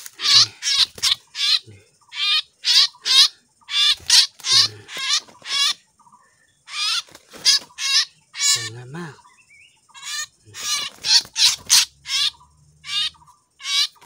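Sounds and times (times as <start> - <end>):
bird distress calls: 0.0 - 14.0.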